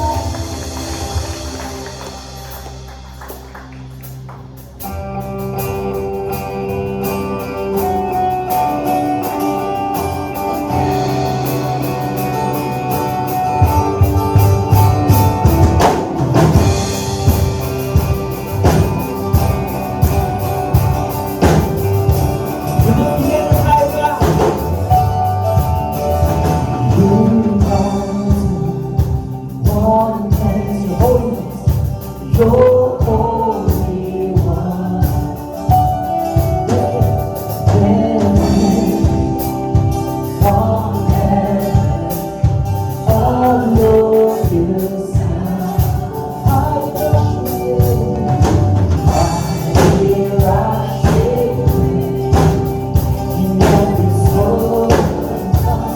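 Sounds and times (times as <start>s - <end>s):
bass and drum beat: 0.0s - 55.9s
worship band playing: 0.0s - 55.9s
lead singer singing: 9.3s - 55.9s
congregation singing: 10.7s - 55.9s.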